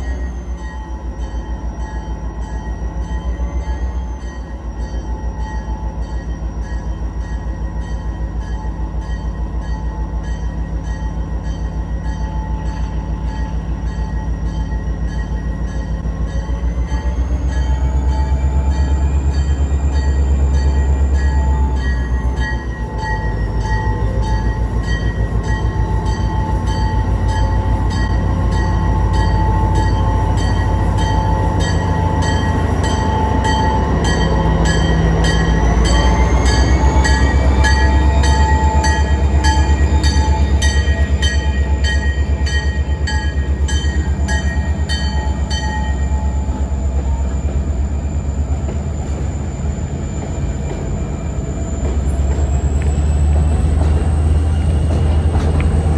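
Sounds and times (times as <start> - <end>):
diesel locomotive rumbling: 0.0 - 55.9.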